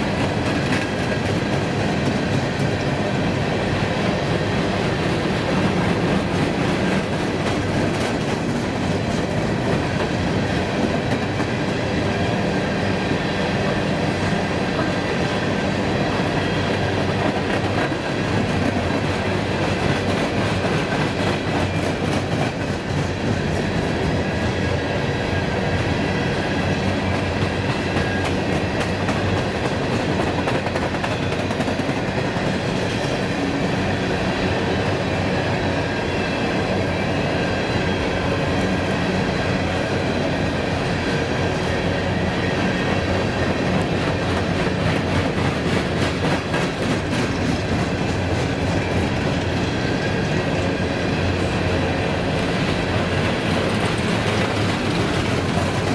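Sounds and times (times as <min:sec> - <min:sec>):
clickety-clack over rail joints: 0:00.0 - 0:55.9
train wheels rumbling on rail: 0:00.0 - 0:55.9.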